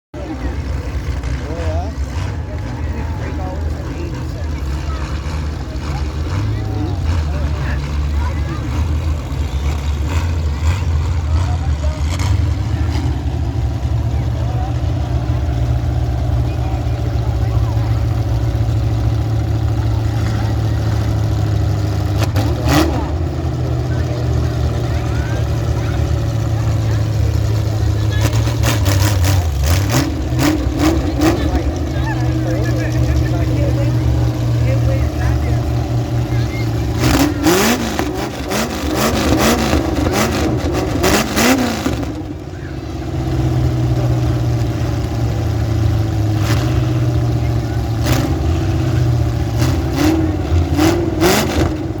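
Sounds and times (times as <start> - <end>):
car engines idling: 0.1 - 52.0.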